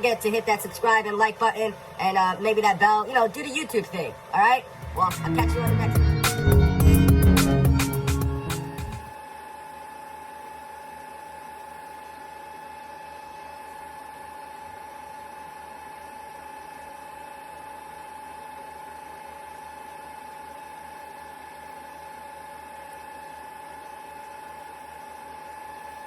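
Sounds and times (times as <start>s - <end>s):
mechanical hum with high whine: 0.0s - 26.0s.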